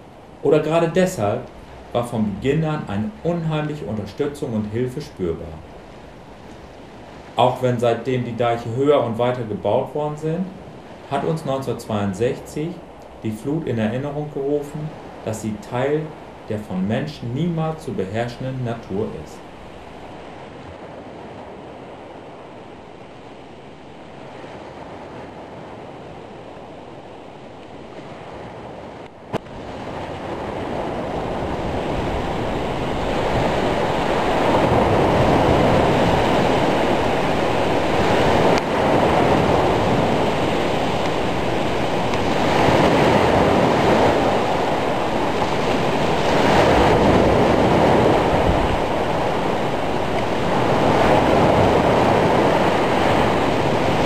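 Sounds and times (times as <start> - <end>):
waves breaking and surging: 0.0 - 54.0
wind: 0.0 - 54.0.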